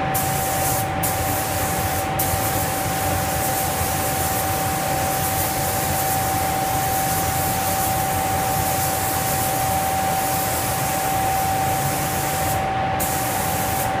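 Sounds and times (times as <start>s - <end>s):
paint spray gun hissing: 0.2s - 14.0s.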